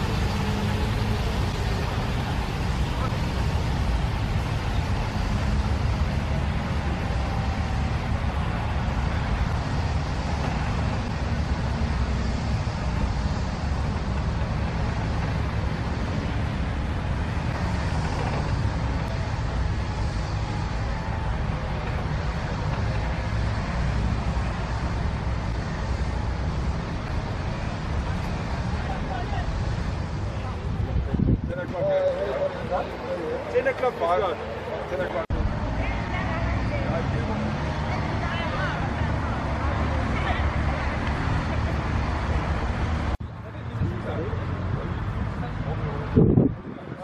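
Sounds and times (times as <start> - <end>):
helicopter rotor rumble: 0.0 - 47.0.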